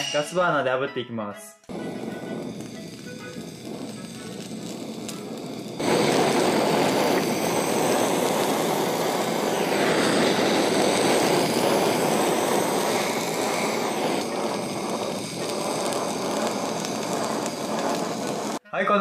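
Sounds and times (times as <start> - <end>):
blowtorch flame rushing: 1.7 - 18.6.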